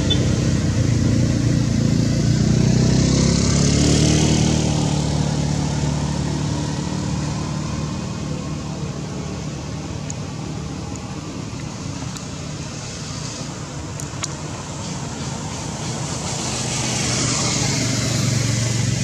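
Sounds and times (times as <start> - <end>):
vehicle engine passing by: 0.0 - 13.9, 14.6 - 19.0.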